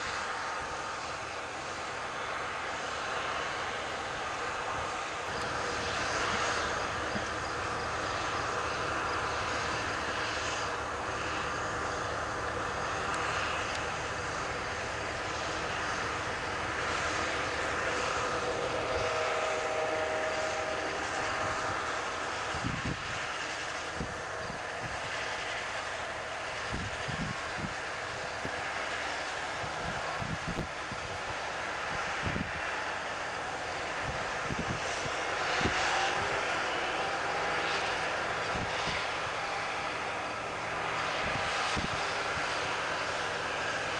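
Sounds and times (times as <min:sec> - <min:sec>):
combine harvester drone: 0:00.0 - 0:43.9
faint whine: 0:00.0 - 0:43.9.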